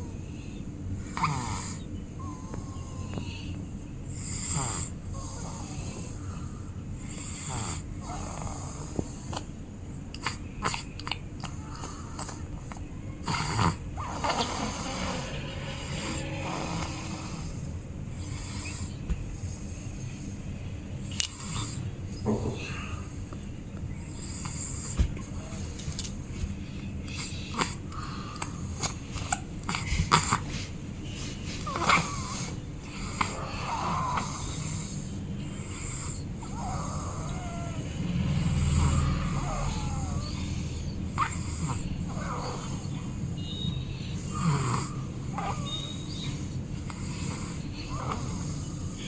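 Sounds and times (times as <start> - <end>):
baby snoring: 0.0 - 9.5, 10.1 - 20.2, 27.1 - 30.6, 31.6 - 49.0.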